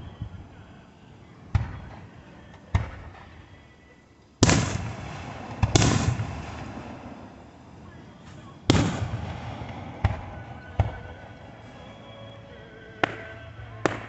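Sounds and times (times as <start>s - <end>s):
fireworks banging: 0.0s - 3.7s, 4.4s - 14.0s
rolling rumble: 0.0s - 14.0s.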